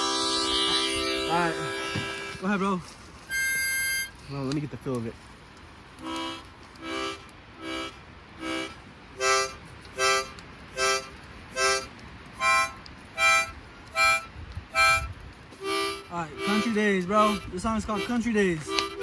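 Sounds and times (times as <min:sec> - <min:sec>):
harmonica playing short chords: 0:00.0 - 0:02.6, 0:03.3 - 0:04.1, 0:06.0 - 0:19.0.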